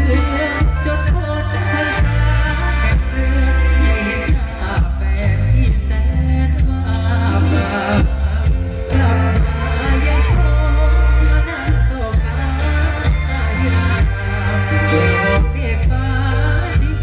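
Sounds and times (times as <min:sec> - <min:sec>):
live band music over pa: 0:00.0 - 0:17.0
man singing: 0:00.0 - 0:17.0.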